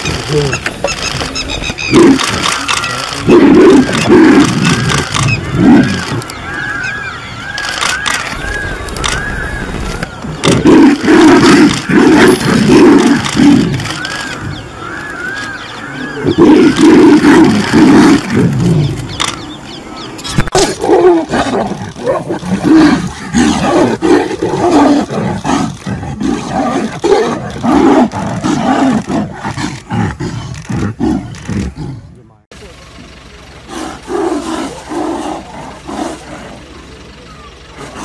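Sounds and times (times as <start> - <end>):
tigers roaring and snarling: 0.0 - 19.4, 20.2 - 32.3, 33.6 - 38.0.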